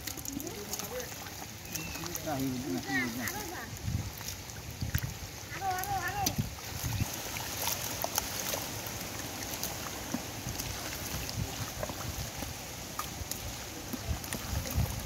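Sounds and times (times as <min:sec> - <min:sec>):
hands squelching through wet mud: 0:00.0 - 0:15.0
small splashes: 0:00.0 - 0:15.0
steady watery noise: 0:00.0 - 0:15.0.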